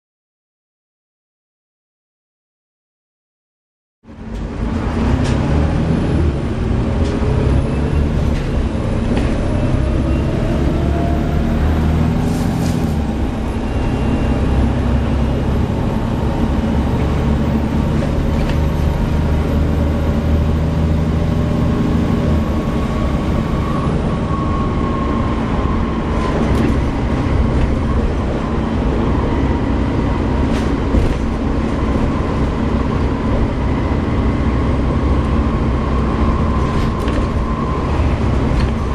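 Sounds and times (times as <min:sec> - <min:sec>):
bus diesel engine running: 0:04.0 - 0:38.9.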